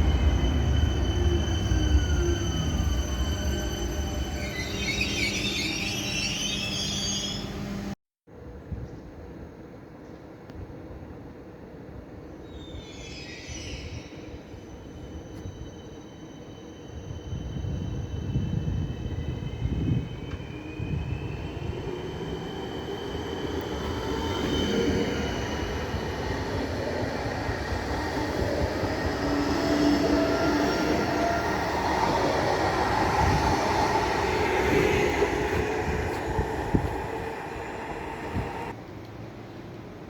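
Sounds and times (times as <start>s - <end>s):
train rumbling on tracks: 0.0s - 8.0s, 13.7s - 40.0s
wheels squealing on rails: 0.0s - 8.0s, 12.5s - 38.8s.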